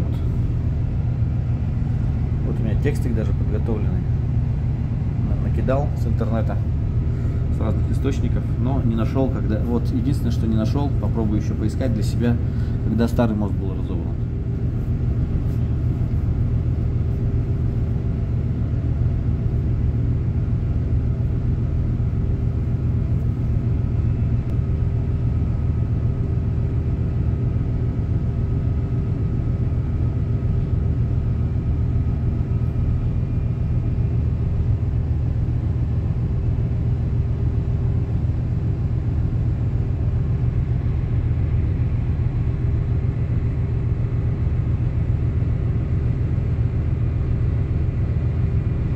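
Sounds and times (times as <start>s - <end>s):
ship engine drone: 0.0s - 48.9s.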